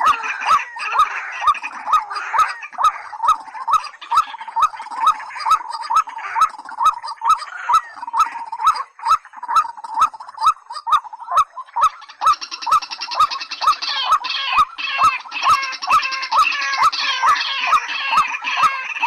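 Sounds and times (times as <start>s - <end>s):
rail bird calls: 0.0s - 19.0s.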